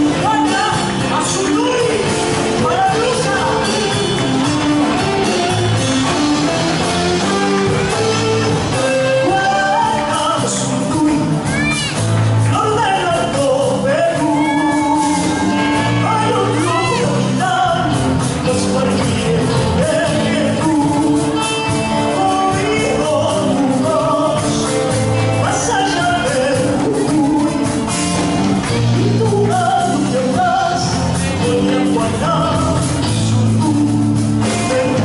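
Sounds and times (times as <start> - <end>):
band playing: 0.0 - 35.0
person singing: 0.0 - 35.0
steady bass line: 0.0 - 35.0.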